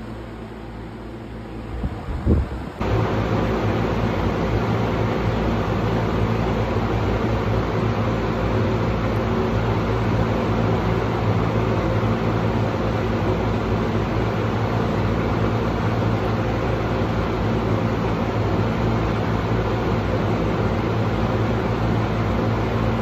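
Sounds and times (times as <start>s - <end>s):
floor fan running: 0.0s - 23.0s.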